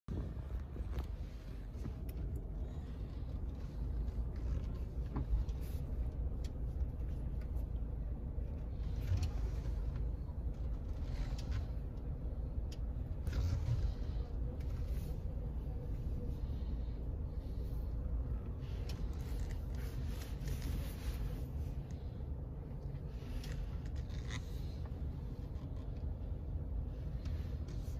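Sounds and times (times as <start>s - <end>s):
road and engine rumble in car: 0.0s - 27.9s.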